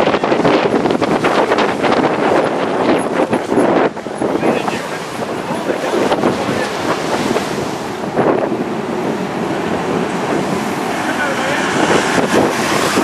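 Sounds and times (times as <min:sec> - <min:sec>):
jet engines at takeoff thrust: 0:00.0 - 0:13.0
wind noise on microphone: 0:00.0 - 0:13.0.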